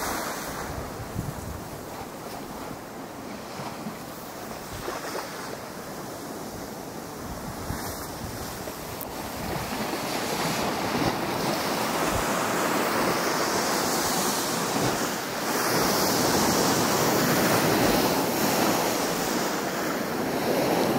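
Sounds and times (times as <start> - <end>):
waves washing through slushy ice: 0.0 - 20.9
wind: 0.0 - 20.9.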